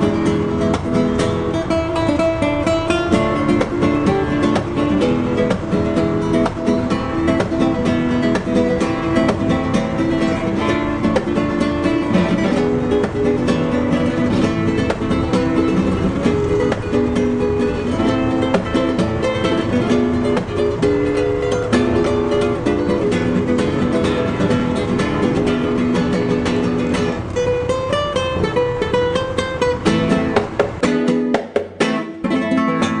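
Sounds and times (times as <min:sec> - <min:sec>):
fast-plucked acoustic guitar: 0:00.0 - 0:33.0.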